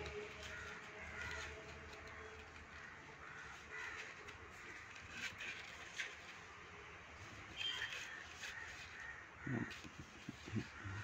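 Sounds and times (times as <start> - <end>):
crows cawing faintly: 0.0 - 6.2, 7.6 - 11.0.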